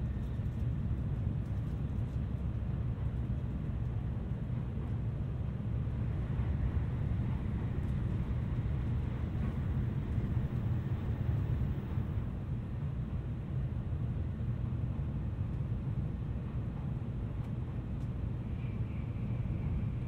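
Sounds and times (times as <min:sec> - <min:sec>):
low rumble of train: 0:00.0 - 0:20.0.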